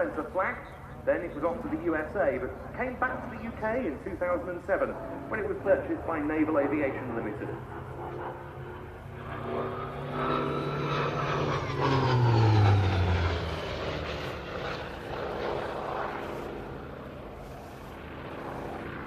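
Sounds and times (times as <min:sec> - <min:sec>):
propeller aircraft engine flypast: 0:00.0 - 0:19.0.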